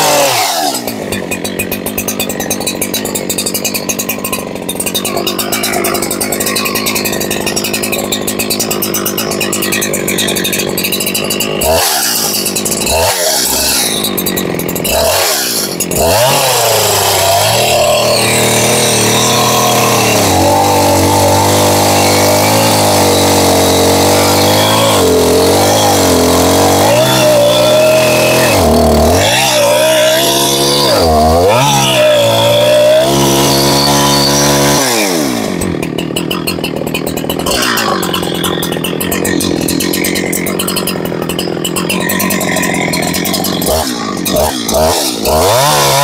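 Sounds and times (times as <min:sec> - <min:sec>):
chainsaw cutting into tree trunk: 0:00.0 - 0:46.0.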